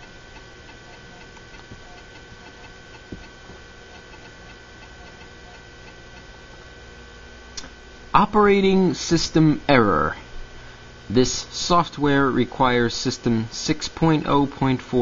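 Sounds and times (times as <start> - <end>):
floppy drive ticking: 0.0 - 15.0
steady hum: 0.0 - 15.0.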